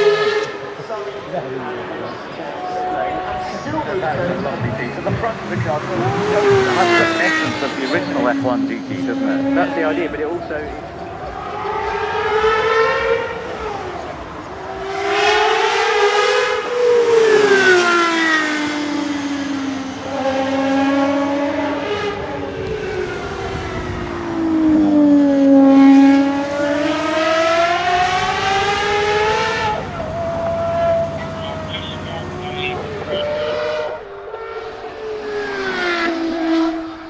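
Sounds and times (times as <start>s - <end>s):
car engine at high revs: 0.0s - 37.0s.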